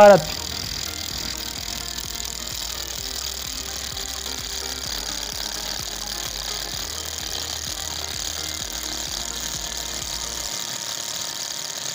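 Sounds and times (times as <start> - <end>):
electric motor running: 0.0 - 11.9
jackhammer bit knocking concrete: 0.0 - 11.9.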